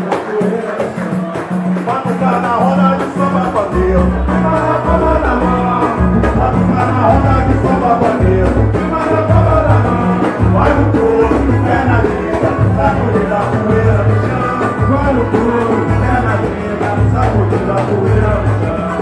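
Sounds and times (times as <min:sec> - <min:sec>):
acoustic guitar: 0:00.0 - 0:19.0
drum kit beat: 0:00.0 - 0:19.0
pandeiro: 0:00.0 - 0:19.0
person singing: 0:00.0 - 0:19.0
surdo drum: 0:00.0 - 0:19.0.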